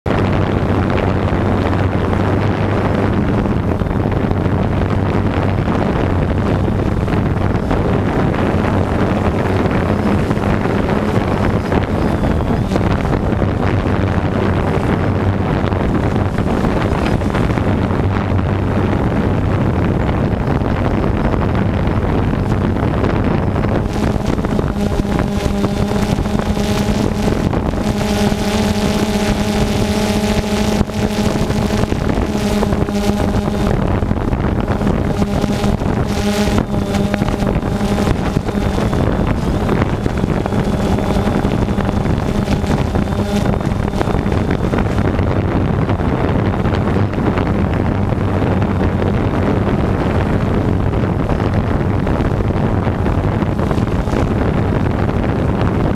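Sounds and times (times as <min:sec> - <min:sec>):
drone propellers humming: 0:00.0 - 0:55.9
wind noise on microphone: 0:00.0 - 0:55.9.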